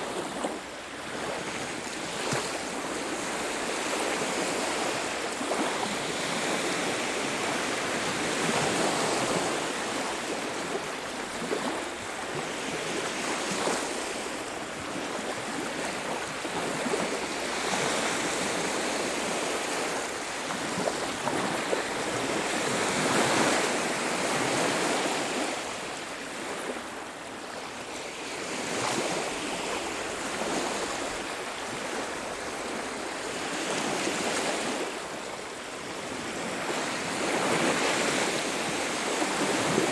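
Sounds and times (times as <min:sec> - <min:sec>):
ocean waves on beach: 0:00.0 - 0:39.9.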